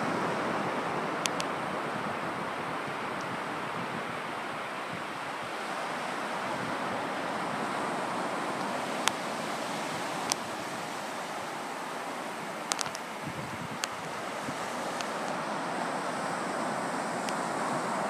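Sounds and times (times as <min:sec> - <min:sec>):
waves breaking on beach: 0:00.0 - 0:18.0
wind: 0:00.0 - 0:18.0.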